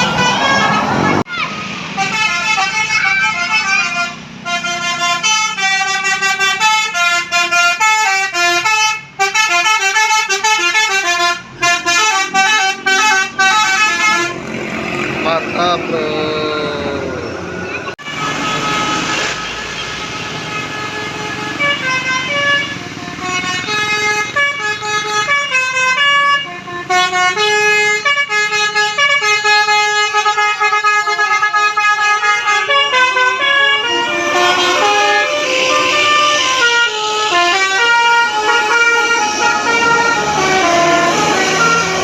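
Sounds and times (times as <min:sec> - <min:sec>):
musical air horn playing a tune: 0:02.0 - 0:14.4, 0:18.0 - 0:42.0.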